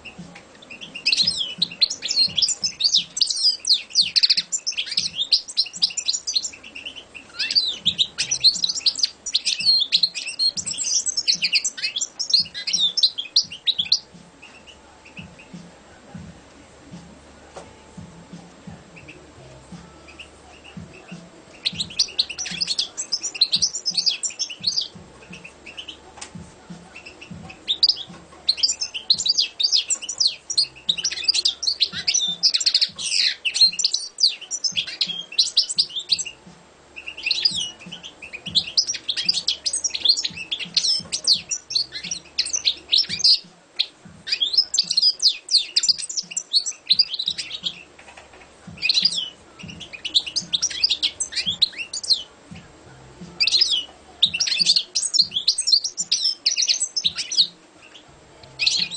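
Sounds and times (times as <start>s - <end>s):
goldfinch singing: 0.0s - 58.9s.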